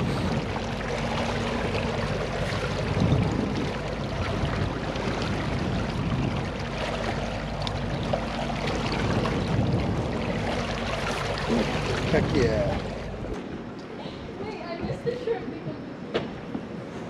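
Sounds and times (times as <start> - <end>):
water rushing around boat: 0.0 - 17.0.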